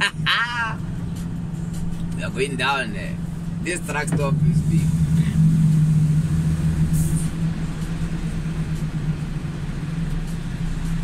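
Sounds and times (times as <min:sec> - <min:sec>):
diesel truck engine droning: 0:00.0 - 0:11.0.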